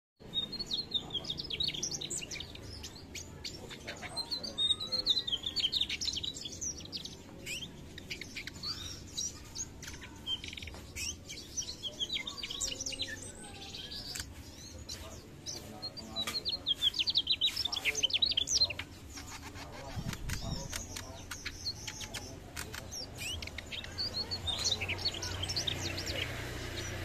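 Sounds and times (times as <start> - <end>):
flycatcher singing: 0.2 - 27.0.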